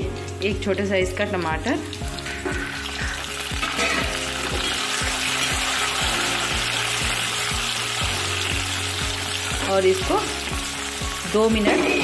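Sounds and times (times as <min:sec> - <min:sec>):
vegetables sizzling in oil: 0:01.7 - 0:12.0.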